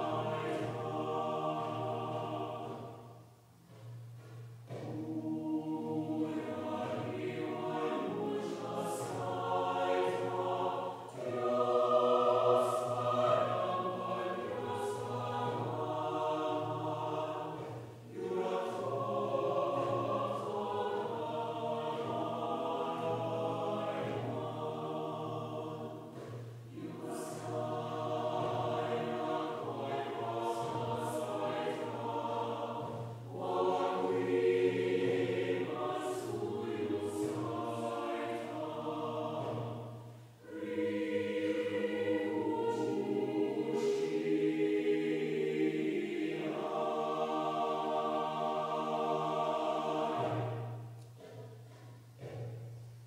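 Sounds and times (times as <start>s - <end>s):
choir singing: 0.0s - 52.6s.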